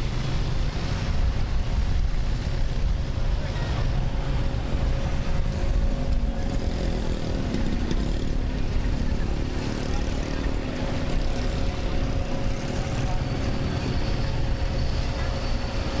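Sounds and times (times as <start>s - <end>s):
constant hum: 0.0s - 16.0s
jet engines rumbling: 0.0s - 16.0s.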